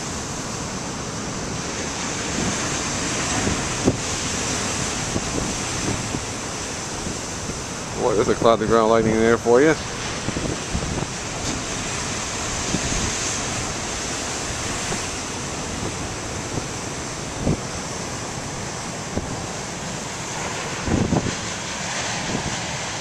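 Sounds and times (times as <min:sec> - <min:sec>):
ocean waves crashing on rocks: 0:00.0 - 0:23.0
wind buffeting microphone: 0:00.0 - 0:23.0.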